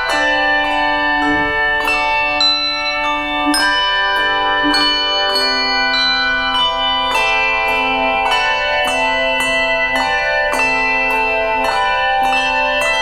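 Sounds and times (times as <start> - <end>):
handbell choir ringing chords: 0.0 - 13.0.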